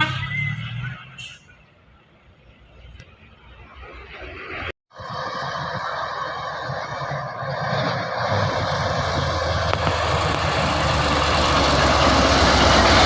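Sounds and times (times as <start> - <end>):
heavy truck engine rumbling: 0.0 - 13.0
tyre and road noise: 0.0 - 13.0.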